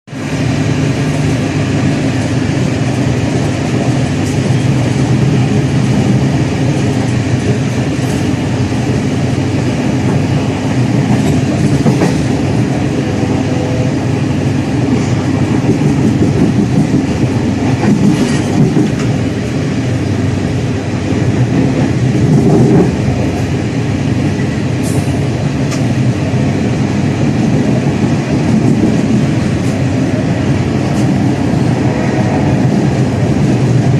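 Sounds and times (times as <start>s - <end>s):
train wheels rumbling on track: 0.1s - 33.9s.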